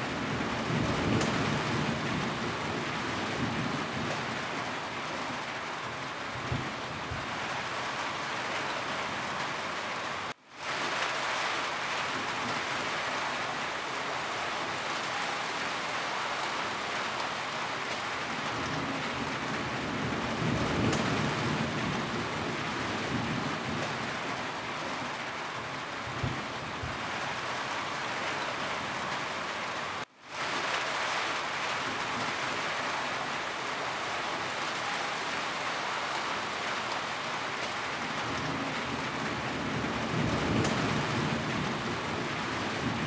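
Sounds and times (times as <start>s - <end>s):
heavy rain drumming on a roof: 0.0s - 43.0s.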